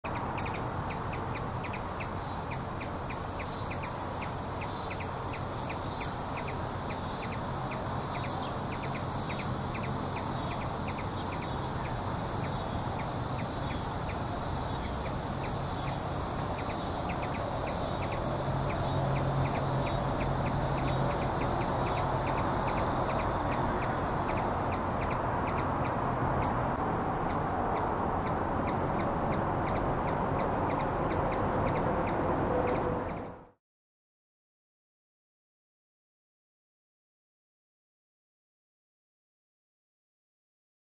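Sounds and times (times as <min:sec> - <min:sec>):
insects chirping: 0:00.1 - 0:33.5
steady high buzz: 0:00.1 - 0:33.5
steady low hum: 0:00.1 - 0:33.5.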